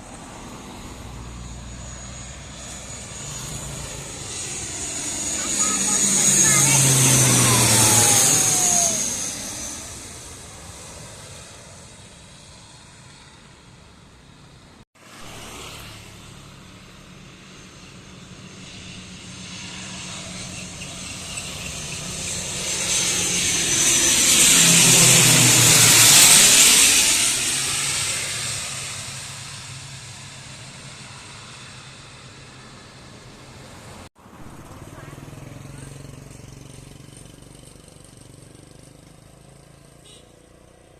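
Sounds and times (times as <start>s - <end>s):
turboprop aircraft passing: 0.0s - 40.9s.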